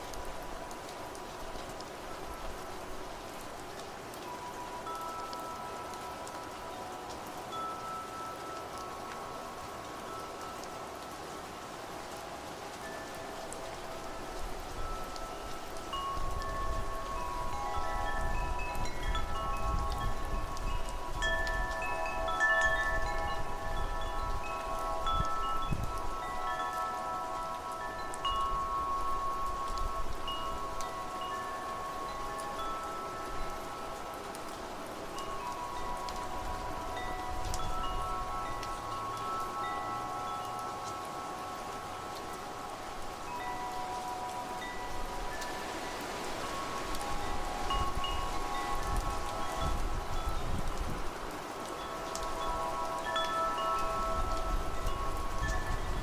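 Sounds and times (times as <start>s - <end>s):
rain and wind hiss: 0.0s - 56.0s
wind chimes ringing: 0.0s - 56.0s.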